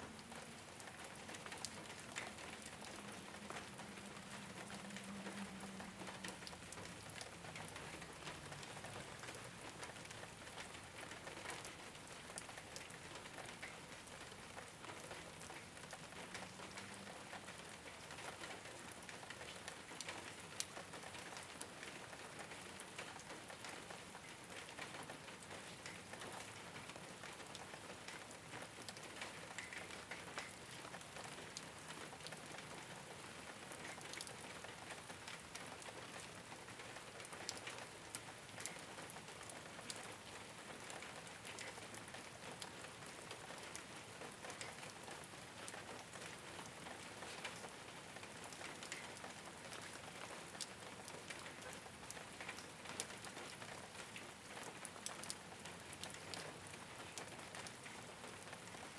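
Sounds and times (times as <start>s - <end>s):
rain falling on a rooftop: 0.0s - 58.9s.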